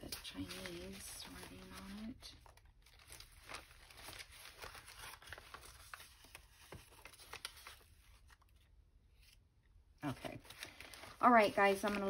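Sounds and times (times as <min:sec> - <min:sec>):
paper scraps rustling: 0:00.0 - 0:08.6, 0:10.1 - 0:12.0.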